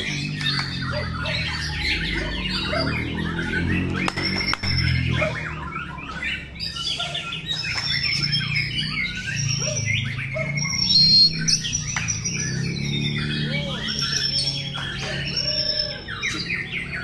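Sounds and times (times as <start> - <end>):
caged birds singing: 0.0 - 17.0.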